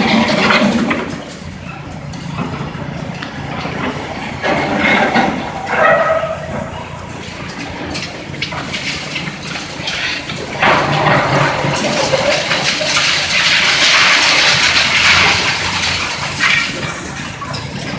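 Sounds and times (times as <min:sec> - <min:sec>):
concrete rubble crashing down: 0:00.0 - 0:17.9.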